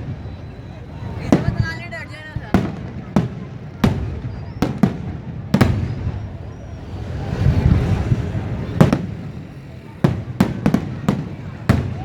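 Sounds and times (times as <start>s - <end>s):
fireworks rumble: 0.0s - 12.0s.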